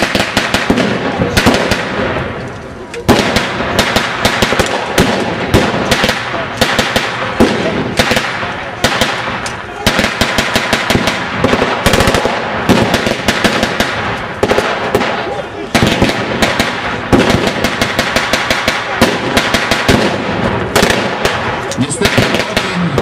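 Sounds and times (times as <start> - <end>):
blank gunfire from rifles: 0.0 - 2.3, 3.1 - 23.0.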